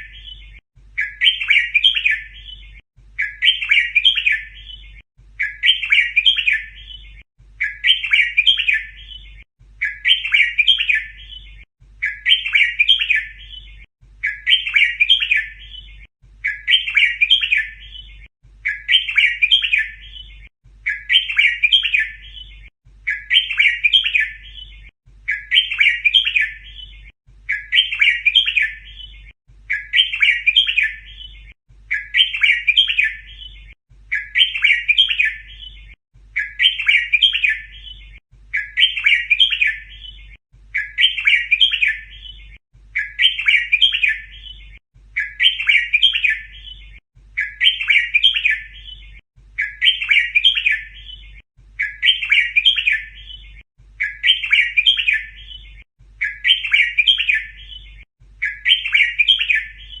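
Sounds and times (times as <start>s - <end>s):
bulbul chirping song: 0.0s - 60.0s.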